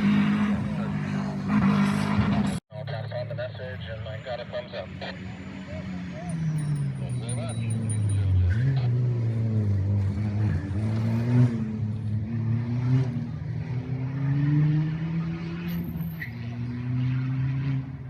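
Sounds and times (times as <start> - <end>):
rally car engine revving: 0.0 - 2.6, 4.5 - 18.0.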